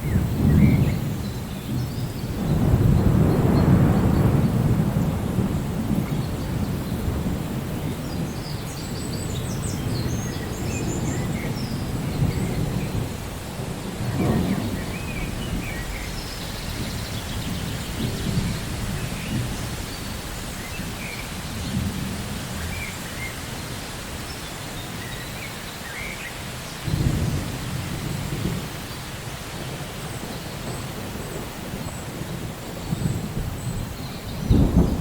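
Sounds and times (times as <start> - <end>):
thunder rumbling: 0.0 - 24.3, 26.8 - 35.0
heavy rain: 0.0 - 35.0.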